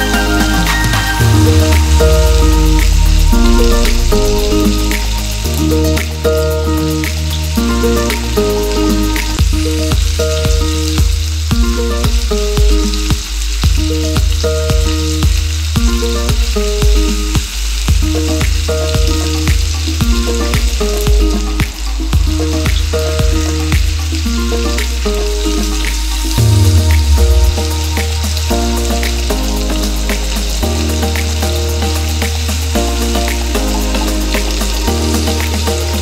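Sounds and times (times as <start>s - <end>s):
background music with beat: 0.0s - 36.0s
chicken wings sizzling in oil: 0.0s - 36.0s.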